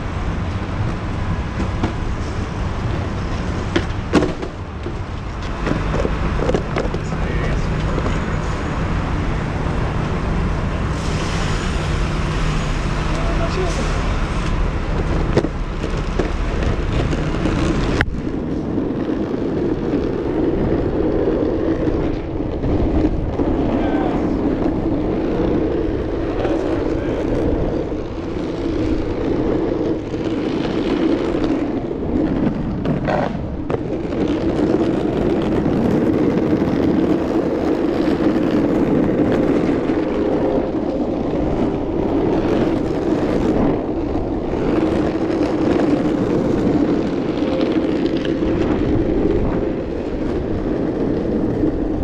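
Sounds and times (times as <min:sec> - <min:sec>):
skateboard rolling on pavement: 0:00.0 - 0:52.0
traffic: 0:00.0 - 0:52.0.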